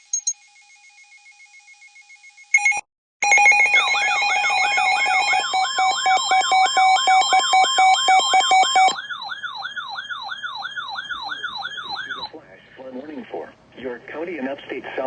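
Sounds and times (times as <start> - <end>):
electronic warbling alarm: 0.0 - 12.3.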